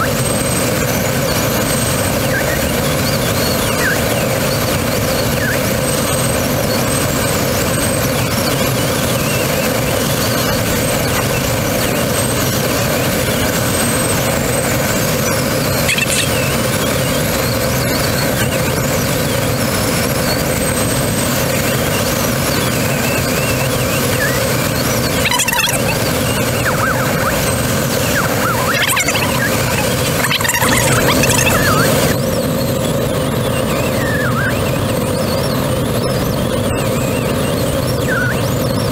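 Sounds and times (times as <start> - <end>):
faint high whistling tones: 0.0 - 32.7, 33.3 - 38.9
airflow rushing around glider: 0.0 - 38.9.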